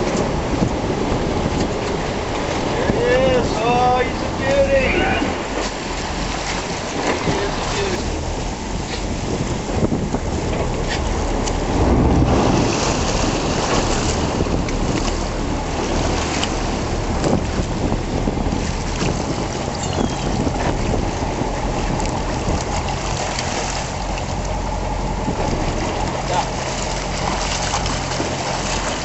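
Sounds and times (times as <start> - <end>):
boat engine running: 0.0 - 29.0
water splashing against hull: 0.0 - 29.0
wind buffeting microphone: 0.0 - 29.0.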